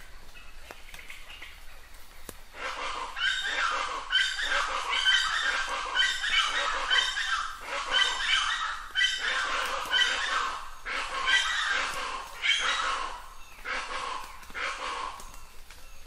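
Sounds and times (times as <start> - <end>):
birds squawking harshly: 2.5 - 15.7.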